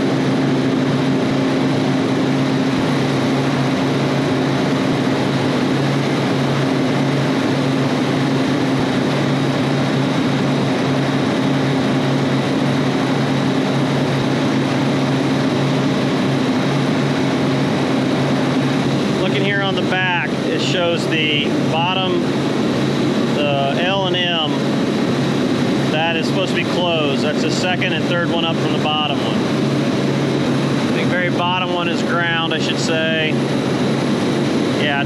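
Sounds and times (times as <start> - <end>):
refrigeration machinery drone: 0.0 - 35.0.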